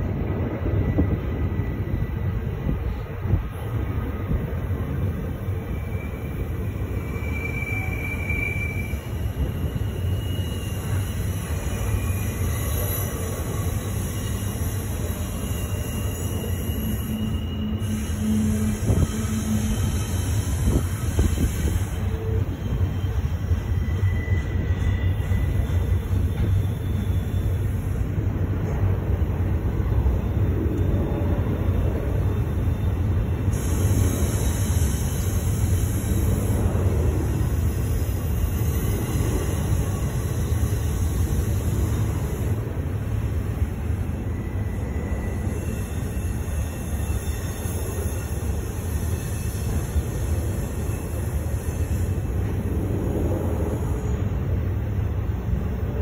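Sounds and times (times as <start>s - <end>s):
freight train wheels rumbling: 0.0s - 56.0s
high wheel squeal: 0.6s - 3.0s, 5.5s - 28.1s, 30.1s - 52.8s.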